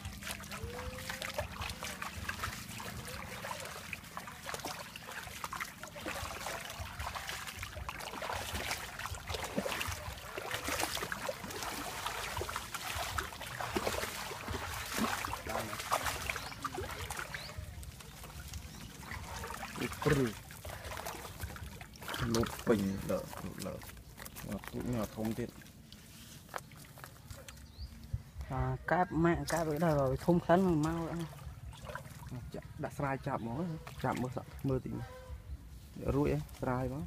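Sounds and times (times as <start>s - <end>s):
feet splashing in shallow water: 0.0s - 28.5s, 29.4s - 37.0s.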